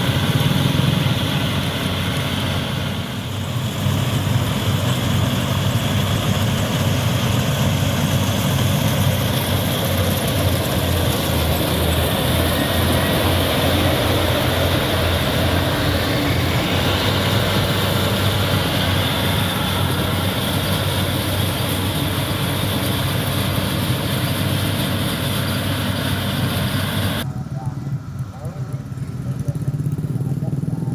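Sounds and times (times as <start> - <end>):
combine harvester low hum: 0.0 - 30.9.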